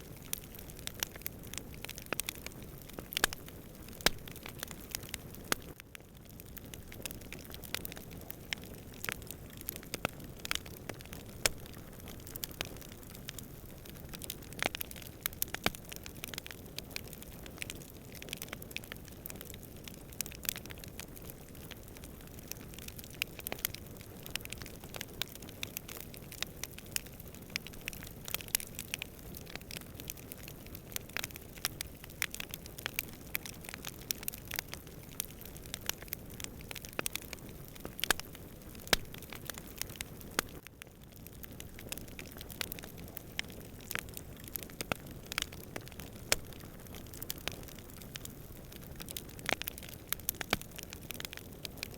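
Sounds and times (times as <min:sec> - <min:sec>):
campfire crackling: 0:00.0 - 0:51.9
fire popping and snapping: 0:00.0 - 0:51.9
low rumble of burning: 0:00.0 - 0:51.9.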